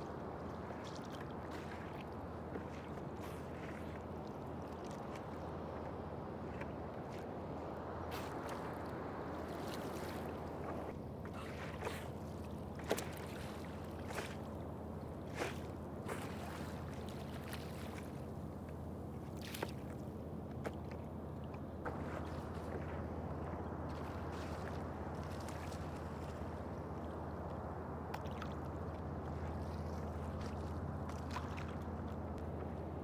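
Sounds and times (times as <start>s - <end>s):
water lapping: 0.0s - 33.0s.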